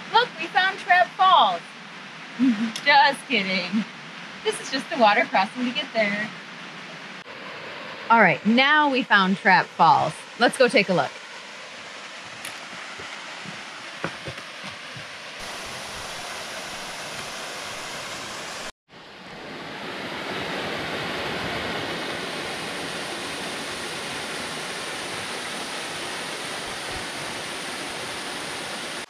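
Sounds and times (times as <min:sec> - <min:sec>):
waterfall rushing into pool: 0:04.4 - 0:29.0.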